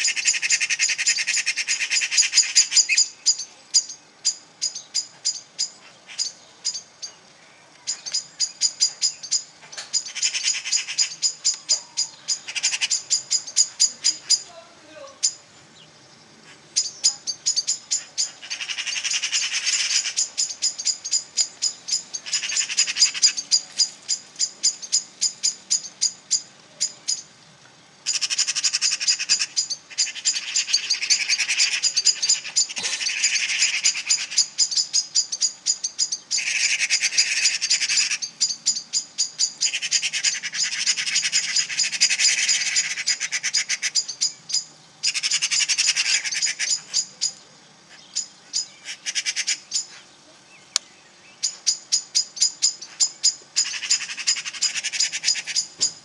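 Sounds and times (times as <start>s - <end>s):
birds sharp alarm calls: 0.0s - 56.0s.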